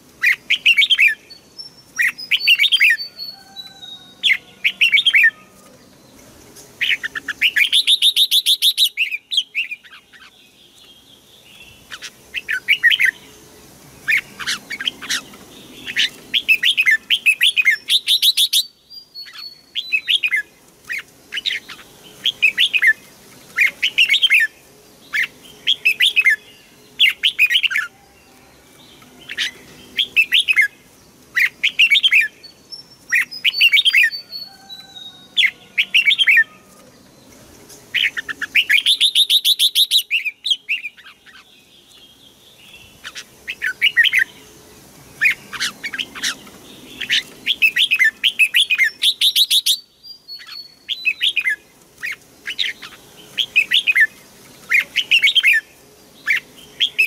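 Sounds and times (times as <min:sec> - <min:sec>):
bird singing chirping phrases: 0:00.2 - 0:57.0.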